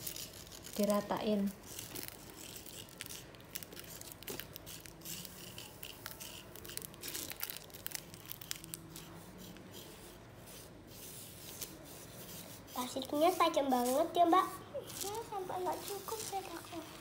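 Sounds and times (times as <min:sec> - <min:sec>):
sand scratching on card: 0:00.0 - 0:17.0.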